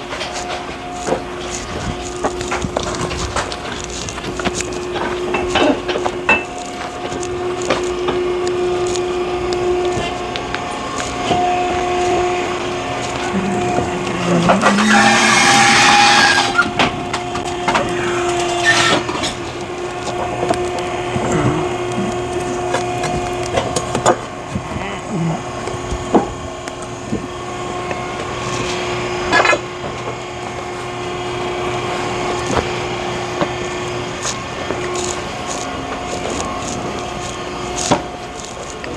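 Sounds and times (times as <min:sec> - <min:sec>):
hydraulic log splitter hum: 0:00.0 - 0:38.9
wood cracking: 0:00.0 - 0:38.9.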